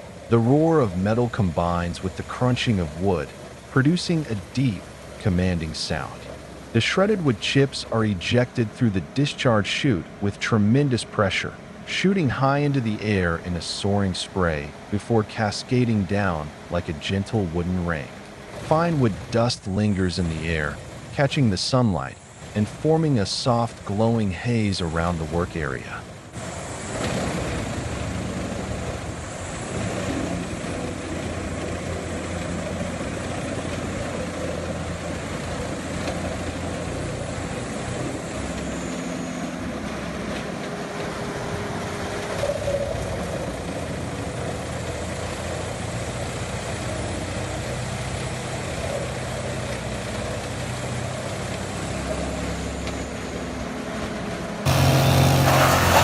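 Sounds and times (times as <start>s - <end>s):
wood chipper shredding logs: 0.0s - 24.2s, 25.0s - 56.0s.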